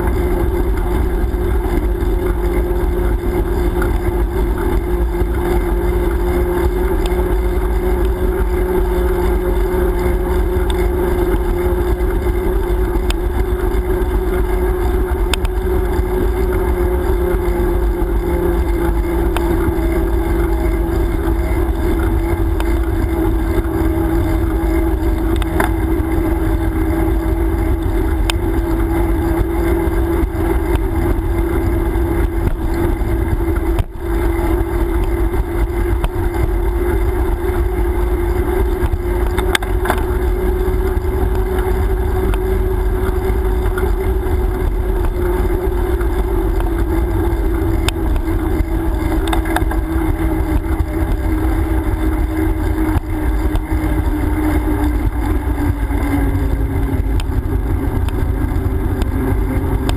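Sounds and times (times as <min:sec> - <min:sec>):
faint ticks: 0:00.0 - 0:59.9
wavering droning hum: 0:00.0 - 0:59.9.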